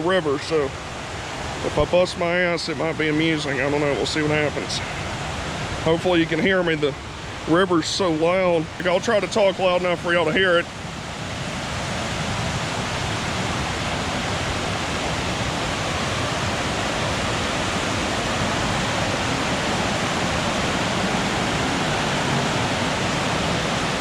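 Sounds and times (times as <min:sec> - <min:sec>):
creek rushing in flood: 0:00.0 - 0:24.0.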